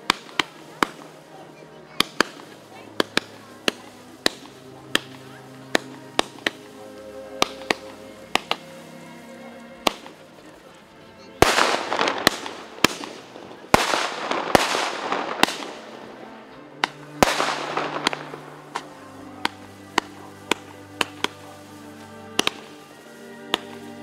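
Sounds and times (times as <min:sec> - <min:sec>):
fireworks bangs and pops: 0:00.0 - 0:09.0, 0:09.8 - 0:10.6, 0:11.4 - 0:24.0
background music with held notes: 0:00.0 - 0:24.0
fireworks crackling shower: 0:00.0 - 0:24.0.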